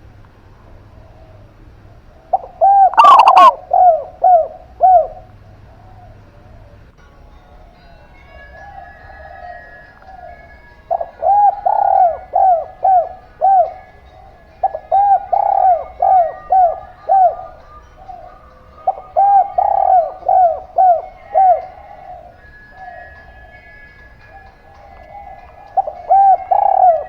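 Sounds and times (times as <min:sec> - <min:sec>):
faint dove cooing: 0:00.6 - 0:06.9, 0:08.5 - 0:27.0
dove cooing loudly: 0:01.0 - 0:06.9, 0:08.5 - 0:27.0.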